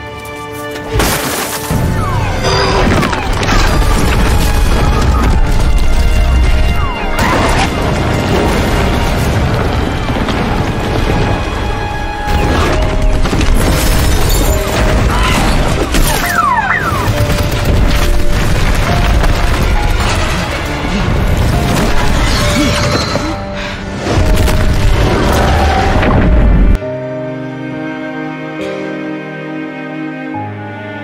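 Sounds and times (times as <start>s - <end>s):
tense orchestral score: 0.0s - 31.0s.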